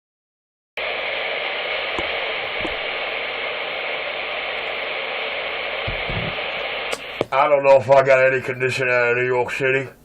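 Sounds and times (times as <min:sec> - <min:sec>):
radio static hiss: 0:00.8 - 0:10.0.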